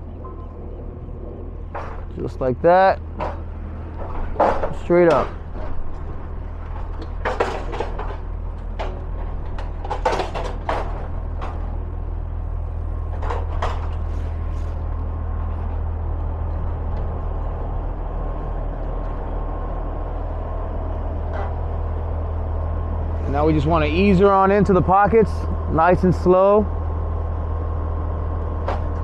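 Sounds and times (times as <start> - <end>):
faint steady whine: 0.0 - 29.0
truck engine low rumble: 0.0 - 29.0.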